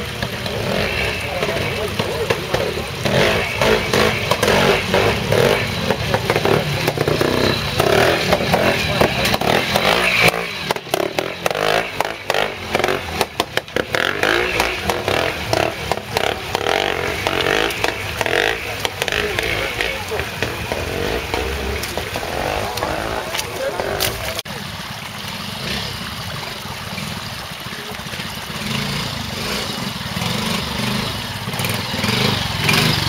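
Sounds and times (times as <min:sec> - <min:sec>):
motorcycle engine running: 0:00.0 - 0:33.0
voices talking: 0:00.0 - 0:33.0.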